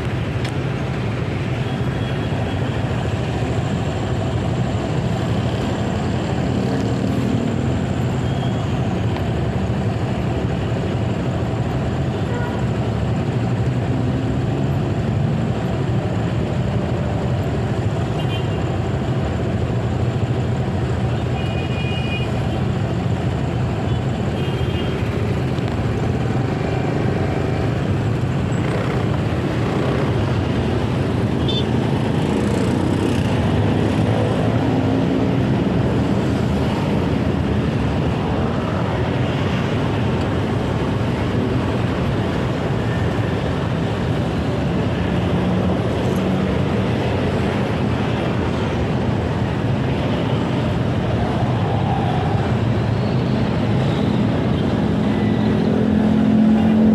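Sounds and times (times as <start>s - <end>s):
road noise: 0.0s - 56.9s
traffic: 0.0s - 56.9s.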